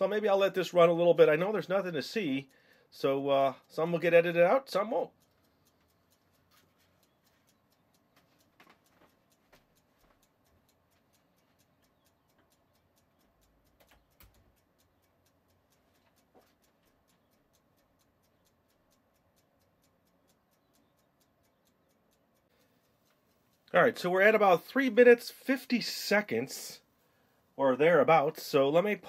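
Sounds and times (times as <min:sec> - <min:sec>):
kitchen timer ticking: 0:00.0 - 0:29.0.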